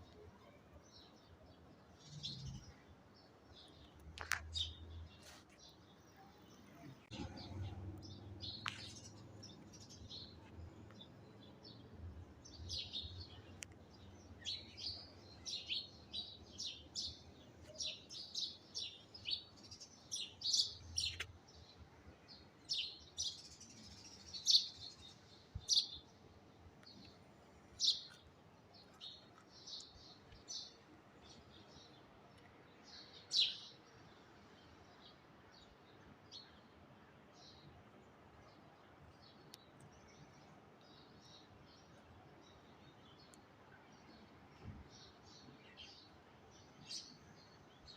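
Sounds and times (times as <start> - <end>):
small birds chirping: 0.0 - 26.2, 26.8 - 36.8, 37.4 - 47.9.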